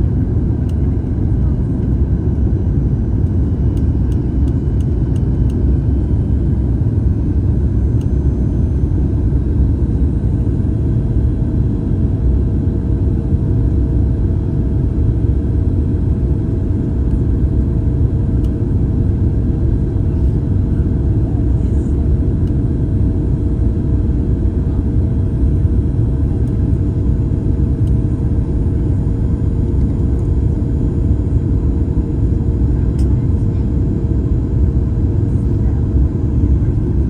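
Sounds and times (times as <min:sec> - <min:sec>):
jet engine and airflow noise: 0:00.0 - 0:37.0
steady hum: 0:00.0 - 0:37.0.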